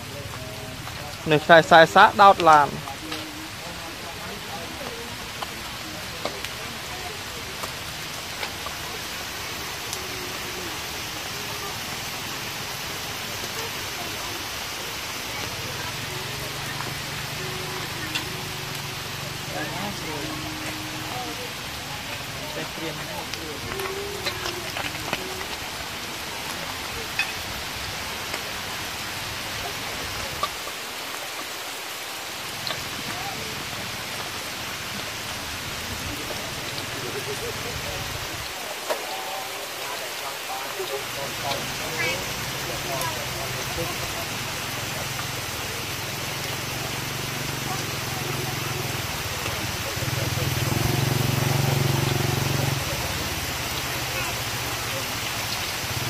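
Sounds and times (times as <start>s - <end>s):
fish sizzling in oil: 0.0s - 31.5s, 32.2s - 37.7s, 40.5s - 56.0s.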